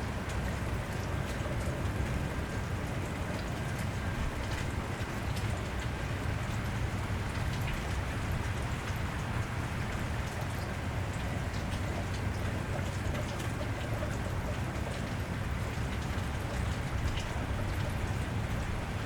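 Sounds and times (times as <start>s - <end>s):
rain falling on wet street: 0.0s - 19.0s.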